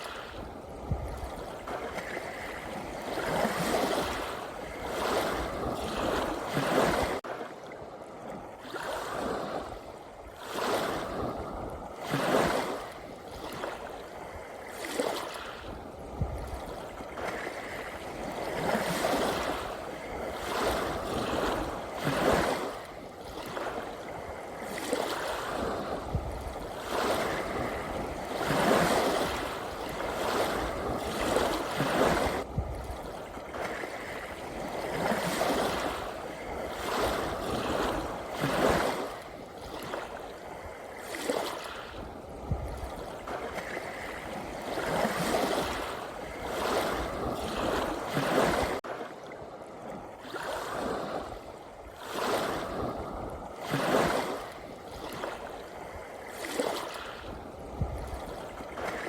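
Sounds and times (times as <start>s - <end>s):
sea waves washing: 0.0s - 59.0s.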